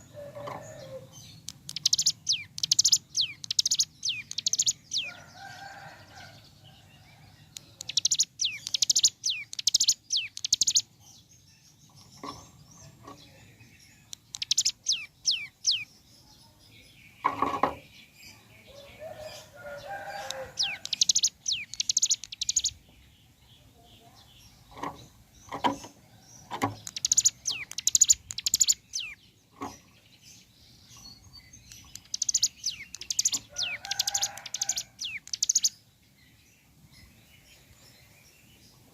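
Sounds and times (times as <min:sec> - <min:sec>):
bird trilling song: 0:00.0 - 0:38.9.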